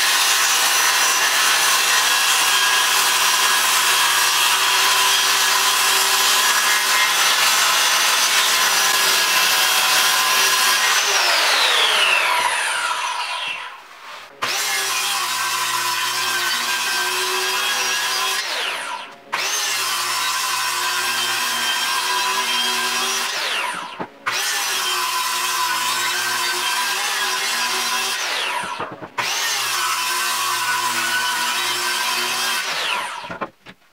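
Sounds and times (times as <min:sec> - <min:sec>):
circular saw cutting plywood: 0:00.0 - 0:33.7.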